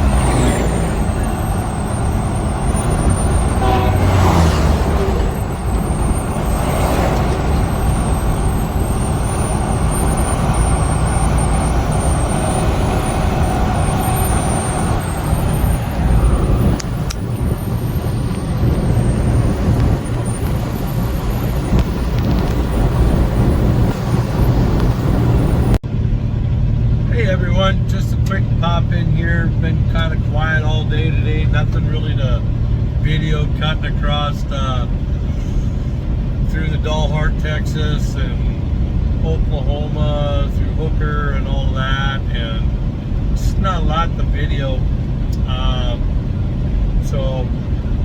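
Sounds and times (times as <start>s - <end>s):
truck engine drone: 0.0s - 48.0s
tyre and road noise: 0.0s - 48.0s.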